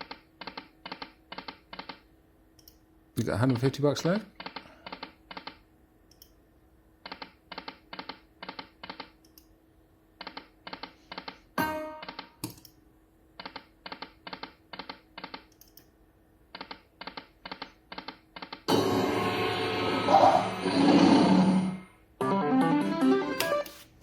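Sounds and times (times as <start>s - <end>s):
faint steady hum: 0.0s - 20.5s.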